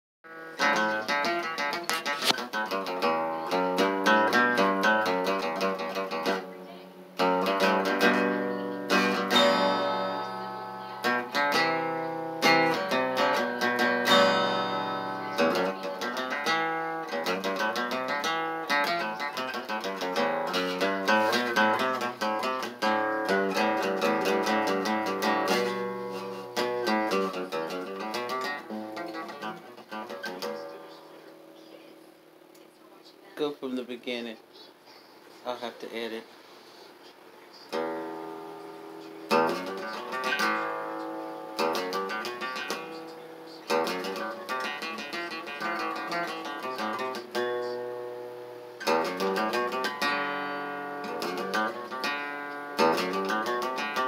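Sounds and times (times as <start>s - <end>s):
acoustic guitar chords: 0.3s - 32.6s, 37.7s - 54.0s.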